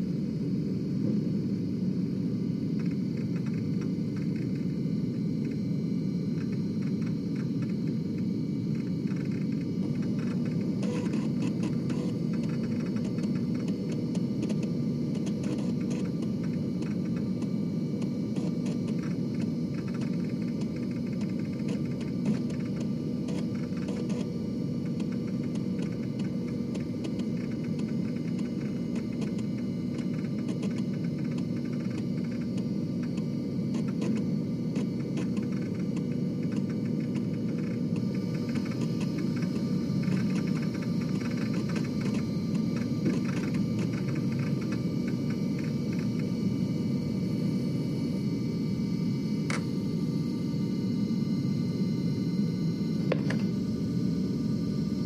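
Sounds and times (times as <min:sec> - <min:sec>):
floppy disk drive whirring: 0:00.0 - 0:55.0.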